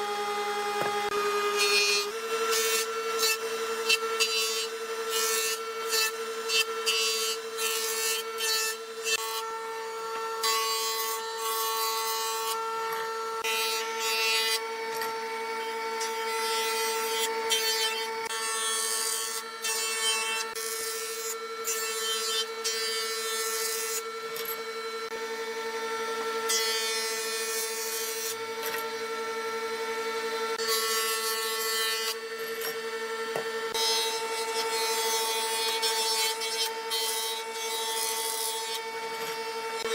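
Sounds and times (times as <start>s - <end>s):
power tool motor humming: 0.0s - 39.9s.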